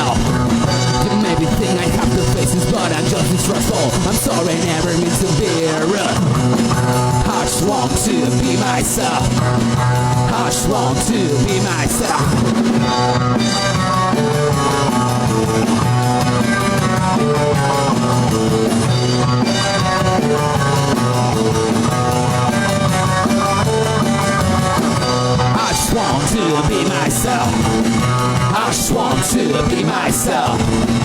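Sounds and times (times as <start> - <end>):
drum kit beat: 0.0 - 31.0
rock band playing: 0.0 - 31.0.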